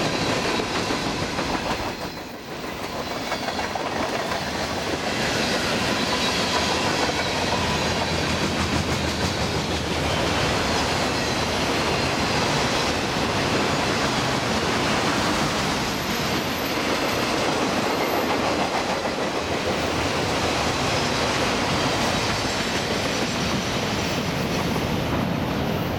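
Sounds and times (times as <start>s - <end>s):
steel train wheels on rails: 0.0s - 25.9s.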